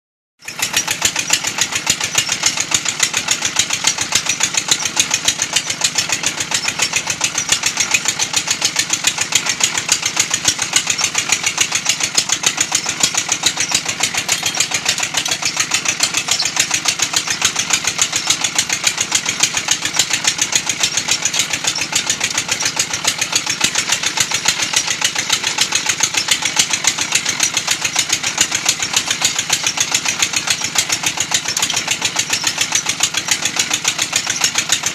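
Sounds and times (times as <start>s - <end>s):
machine mechanical beat: 0.7s - 34.9s.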